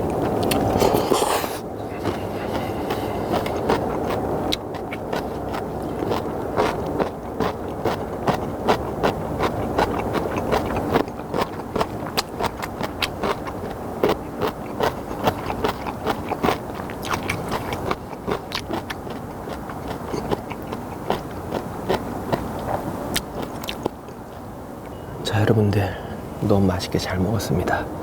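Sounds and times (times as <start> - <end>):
chewing and slurping noodles: 0.0 - 24.2.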